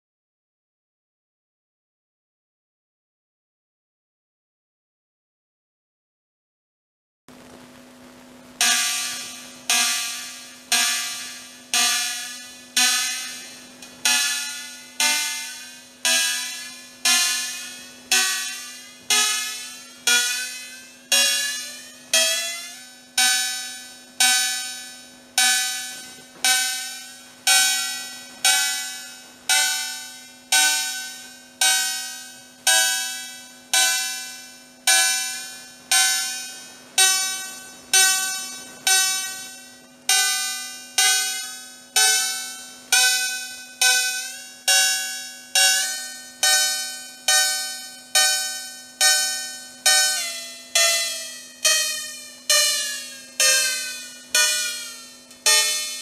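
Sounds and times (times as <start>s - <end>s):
faint steady hum: 7.3s - 56.0s
electronic cowbell hits: 8.6s - 56.0s.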